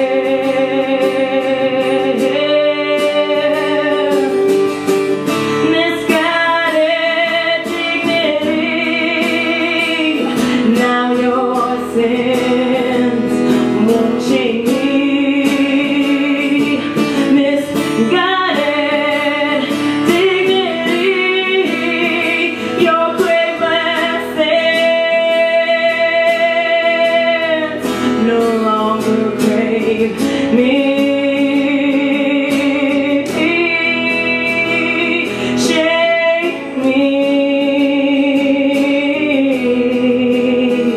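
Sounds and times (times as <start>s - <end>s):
guitar accompaniment: 0.0s - 40.9s
person singing long notes: 0.0s - 40.9s.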